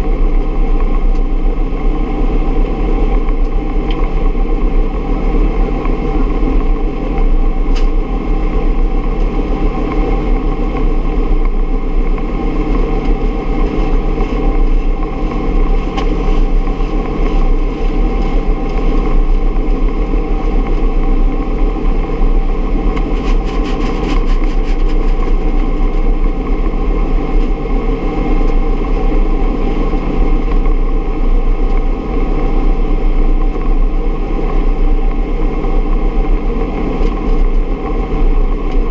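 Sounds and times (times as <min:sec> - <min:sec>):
helicopter turbine and rotor drone: 0:00.0 - 0:38.9.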